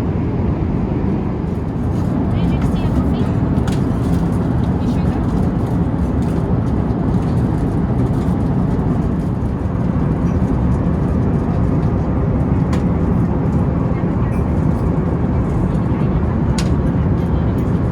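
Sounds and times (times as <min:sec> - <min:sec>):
airplane cabin rumble: 0:00.0 - 0:17.9.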